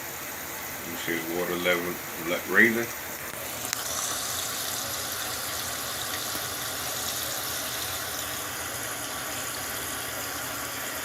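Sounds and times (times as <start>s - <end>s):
water running into plastic tub: 0.1s - 11.0s.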